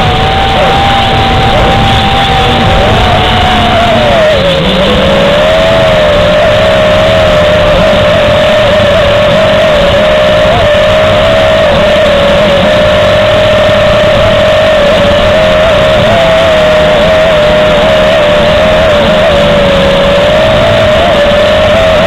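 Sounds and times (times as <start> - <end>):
drone propellers whining: 0.0 - 22.0
rushing air: 0.0 - 22.0.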